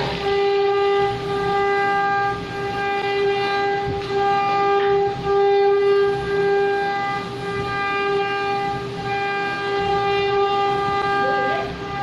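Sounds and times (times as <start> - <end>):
sawmill machinery whining: 0.0 - 12.0.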